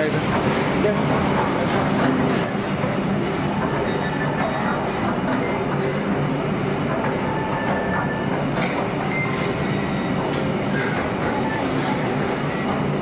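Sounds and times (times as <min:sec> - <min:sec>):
rotating drum rumbling: 0:00.0 - 0:13.0.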